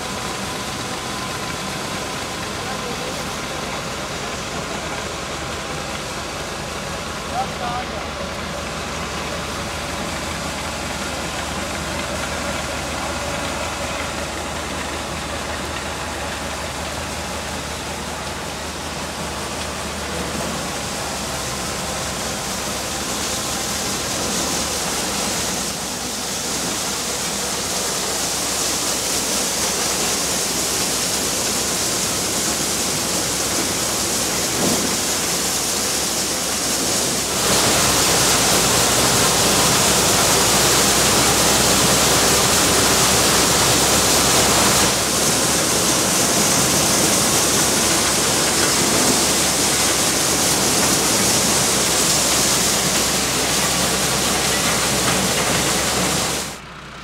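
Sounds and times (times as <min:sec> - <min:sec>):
corn thresher running: 0:00.0 - 0:57.0.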